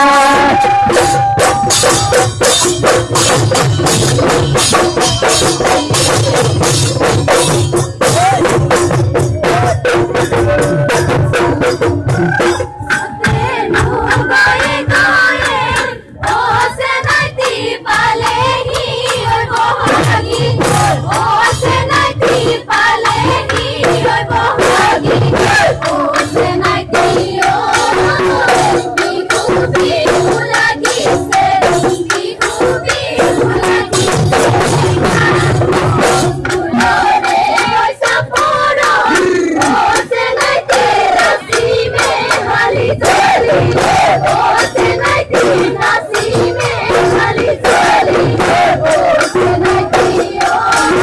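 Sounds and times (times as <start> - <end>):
drums beating dense rhythm: 0.0 - 51.0
people singing: 0.0 - 51.0.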